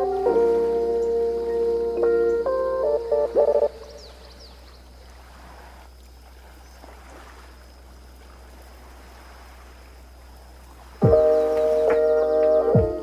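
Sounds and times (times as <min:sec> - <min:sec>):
sea water washing: 0:00.0 - 0:13.0.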